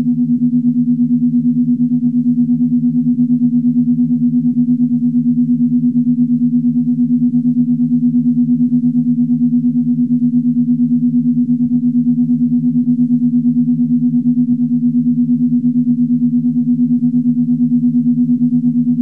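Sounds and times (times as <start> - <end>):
pulsing low electronic hum: 0.0 - 19.0.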